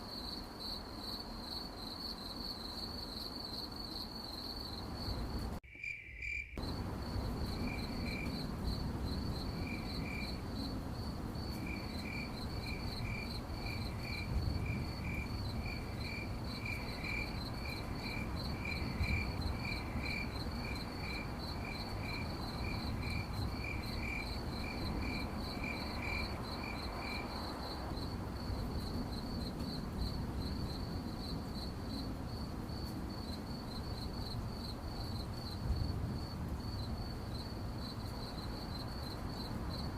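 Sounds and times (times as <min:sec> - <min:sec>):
high rapid cricket chirps: 0:00.0 - 0:39.9
lower-pitched cricket chirping: 0:00.0 - 0:39.9.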